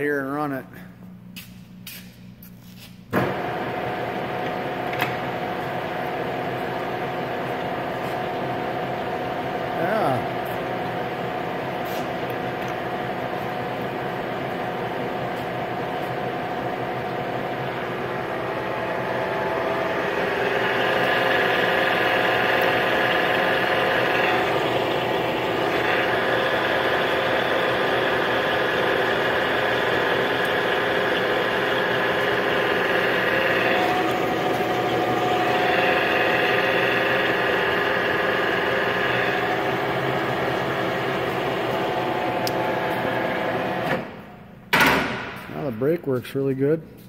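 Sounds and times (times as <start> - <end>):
lathe gears whining: 3.3 - 44.1.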